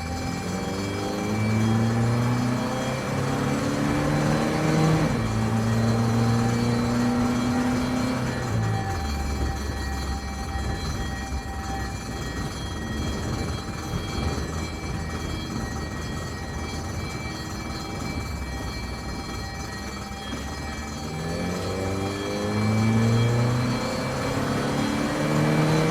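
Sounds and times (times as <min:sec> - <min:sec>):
ambulance engine idling and revving: 0:00.0 - 0:25.9.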